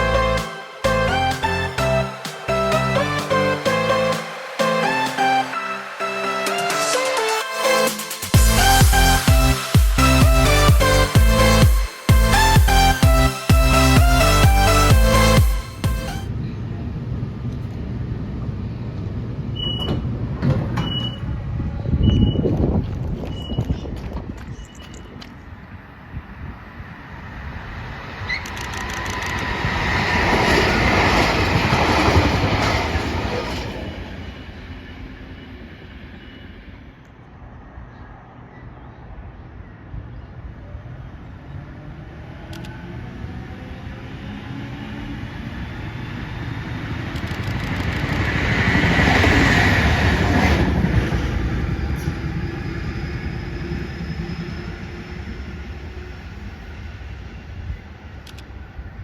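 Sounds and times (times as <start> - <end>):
train passing: 0.0 - 19.6, 25.3 - 59.0.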